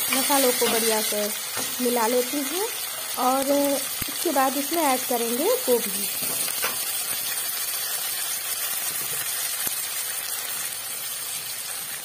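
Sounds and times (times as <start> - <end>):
cauliflower sizzling in oil: 0.0 - 12.0.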